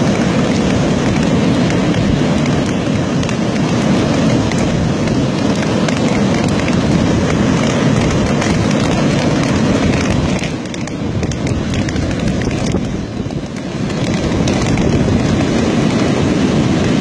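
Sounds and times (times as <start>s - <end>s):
floodwater rushing: 0.0s - 17.0s
heavy rain: 0.0s - 17.0s.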